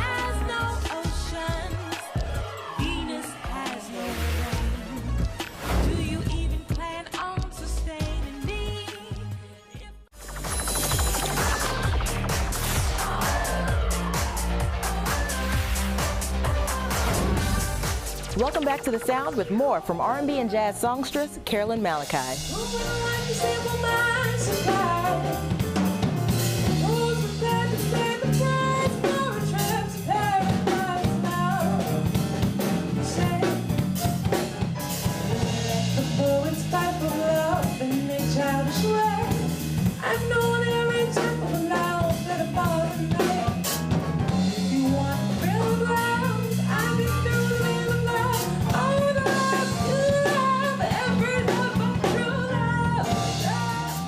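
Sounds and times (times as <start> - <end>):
rhythm and blues song: 0.0 - 54.0.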